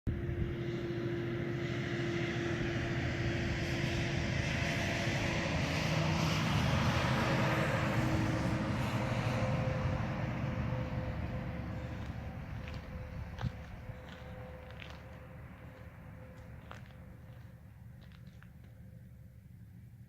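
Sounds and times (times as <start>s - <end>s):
vehicle engine and road noise: 0.1s - 20.0s.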